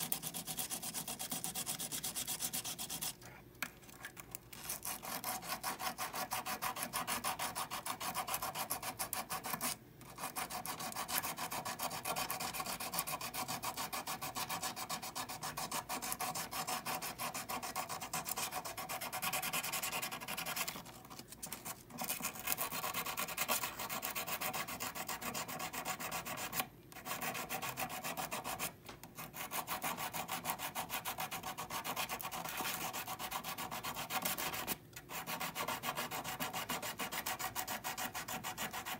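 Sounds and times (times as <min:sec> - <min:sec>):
hand sanding metal bangle: 0:00.0 - 0:03.2, 0:04.5 - 0:38.9.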